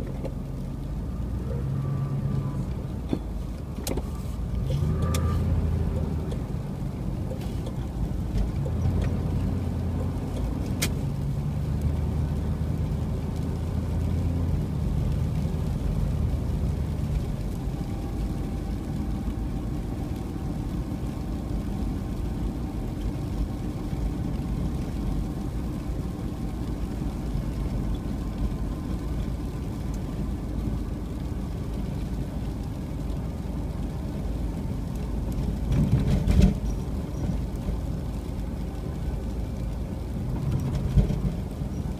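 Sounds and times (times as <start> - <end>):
car engine hum: 0.0 - 41.9
road and tyre noise: 0.0 - 41.9.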